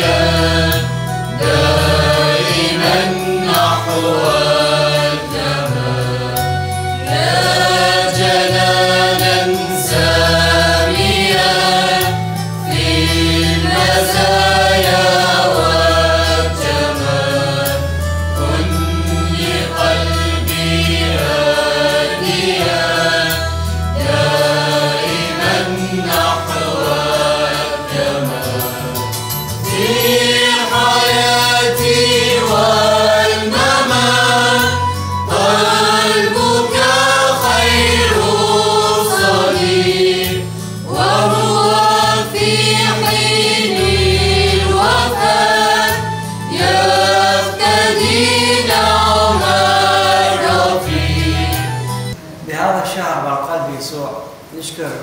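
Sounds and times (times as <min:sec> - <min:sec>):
choir singing a hymn: 0:00.0 - 0:52.2.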